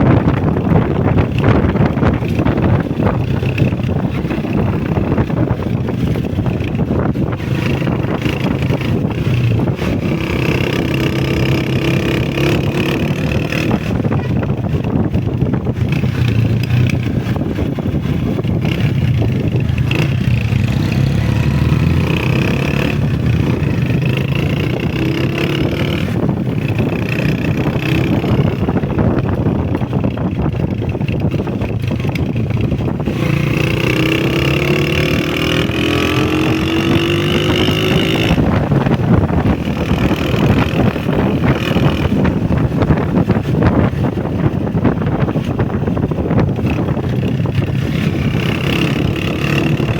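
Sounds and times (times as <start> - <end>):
motorcycle engine running: 0.0 - 49.9
wind and road rumble: 0.0 - 49.9.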